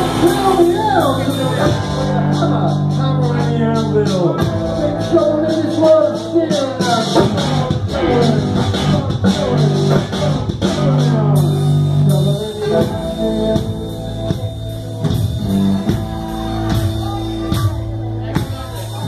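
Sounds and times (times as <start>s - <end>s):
drums: 0.0s - 19.0s
live band playing dance music: 0.0s - 19.0s.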